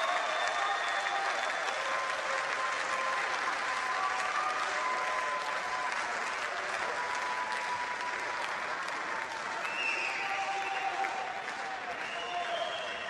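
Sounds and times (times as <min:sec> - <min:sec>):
stadium crowd cheering: 0:00.0 - 0:13.0.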